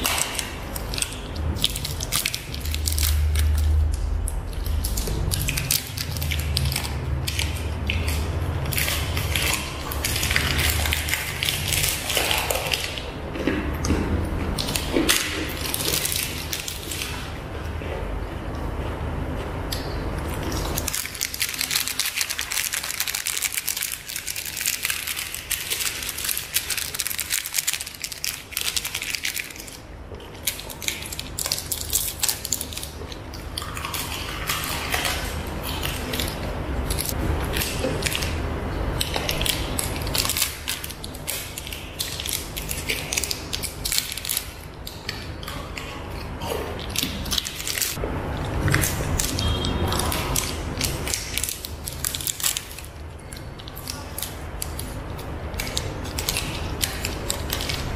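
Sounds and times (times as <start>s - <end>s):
plastic wrappers crinkling: 0.0s - 13.2s, 14.6s - 17.3s, 20.4s - 45.6s, 46.8s - 57.9s
crunching and chewing: 0.0s - 57.9s.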